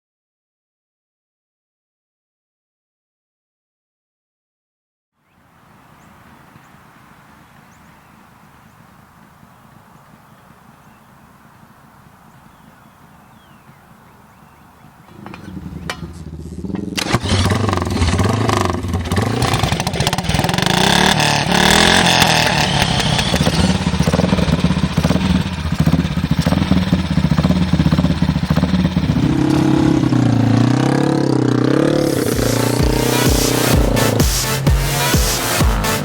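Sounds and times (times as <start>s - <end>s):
racing motorcycle engines revving: 5.5s - 36.0s.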